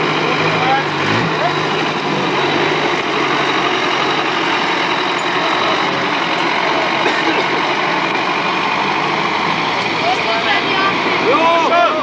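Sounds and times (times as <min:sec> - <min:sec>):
off-road engine running: 0:00.0 - 0:12.0
spectators' voices: 0:00.0 - 0:12.0.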